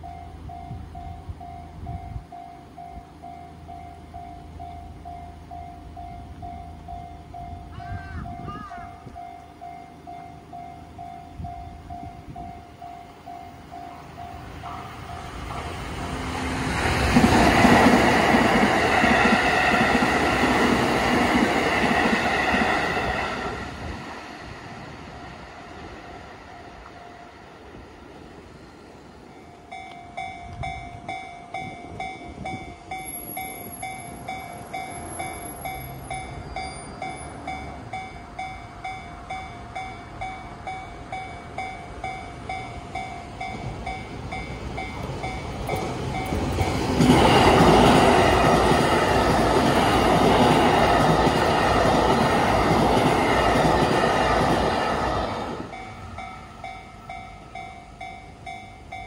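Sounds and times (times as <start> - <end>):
railroad crossing bell ringing: 0.0 - 59.0
train passing over crossing: 0.0 - 59.0.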